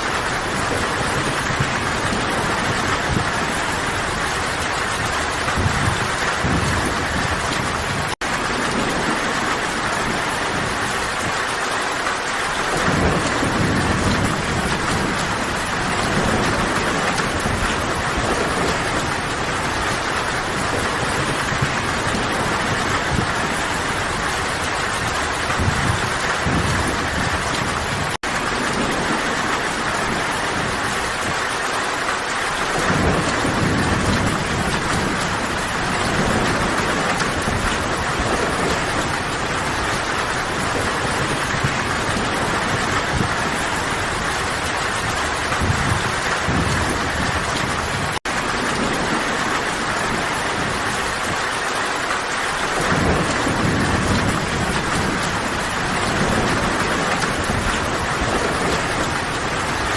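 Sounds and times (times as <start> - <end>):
distant thunder rumbles: 0.0 - 59.9
heavy rain falling: 0.0 - 59.9.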